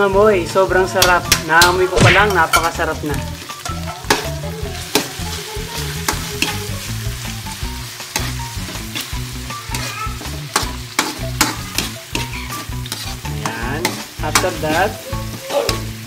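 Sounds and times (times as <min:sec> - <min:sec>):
meat sizzling in hot oil: 0:00.0 - 0:16.0
metal spatula scraping a pan: 0:00.9 - 0:16.0.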